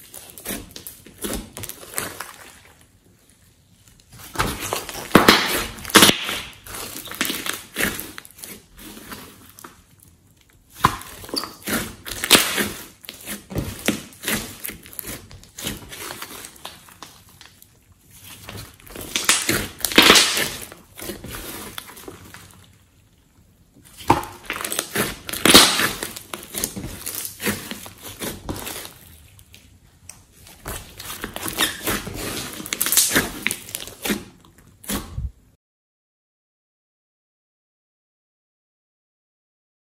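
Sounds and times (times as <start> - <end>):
slime squelching and popping: 0.0 - 22.8, 23.8 - 35.1.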